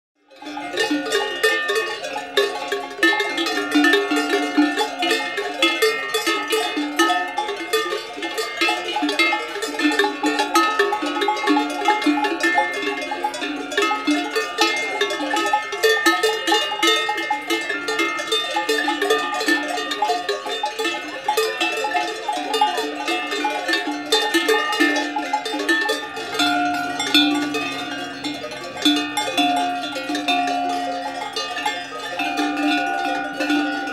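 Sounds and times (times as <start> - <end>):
cowbells clanking: 0.2 - 33.9.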